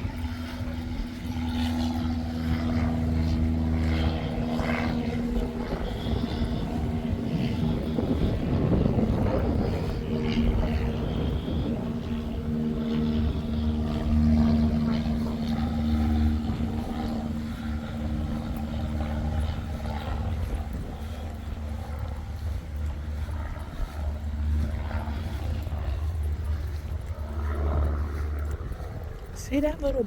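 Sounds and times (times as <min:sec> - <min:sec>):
distant engine droning: 0:00.0 - 0:30.0
low uneven rumble: 0:00.0 - 0:30.0.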